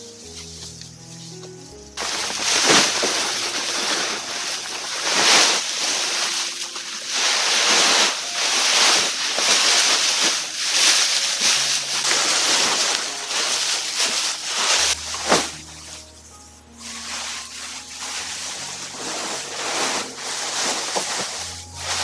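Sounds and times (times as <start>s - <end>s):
dry straw rustling and crackling: 0.0s - 22.0s.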